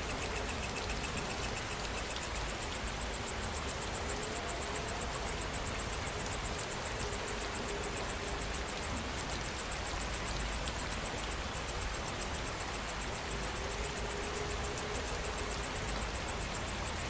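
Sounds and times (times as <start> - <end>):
cricket chirping: 0.0 - 17.0
steady rain falling: 0.0 - 17.0.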